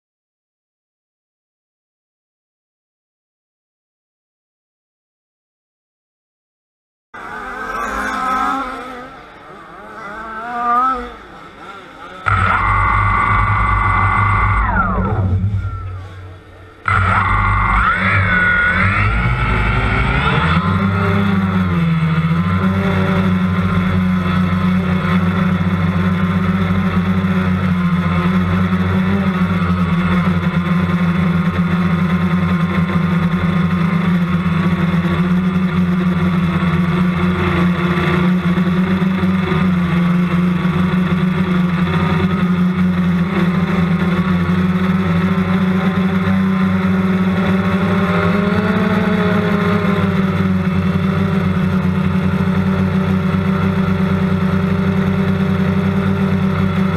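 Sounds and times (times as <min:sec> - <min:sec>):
drone motors and propellers buzzing: 0:07.2 - 0:56.9.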